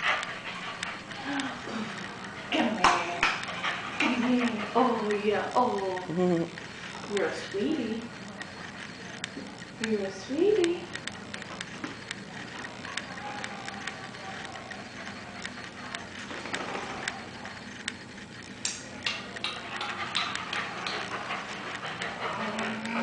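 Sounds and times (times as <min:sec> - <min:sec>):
dog claws clicking on floor: 0:00.0 - 0:23.0.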